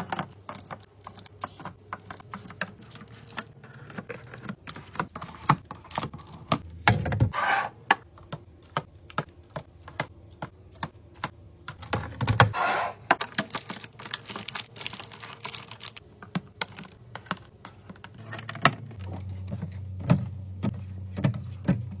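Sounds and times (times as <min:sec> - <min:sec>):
containers handled in a fridge: 0:00.0 - 0:22.0.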